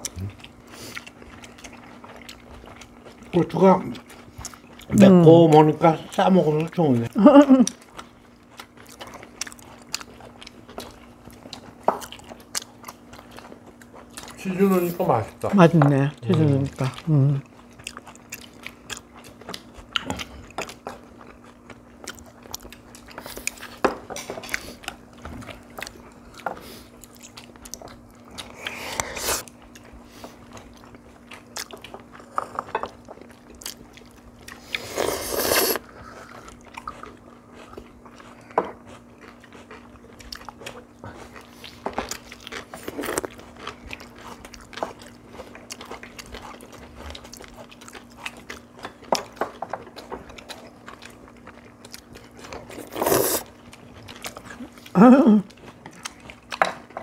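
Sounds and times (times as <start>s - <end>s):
faint steady hum: 0.0s - 57.0s
people chewing: 0.0s - 57.0s.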